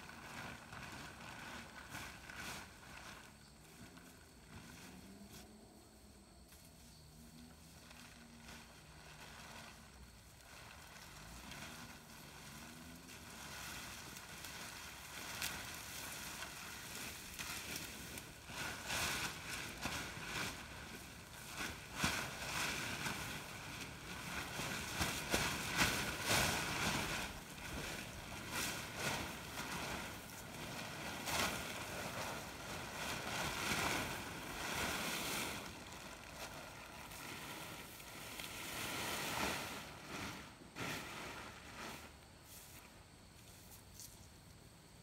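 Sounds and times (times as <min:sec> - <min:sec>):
plastic tarp rustling and crackling: 0:00.0 - 0:44.2.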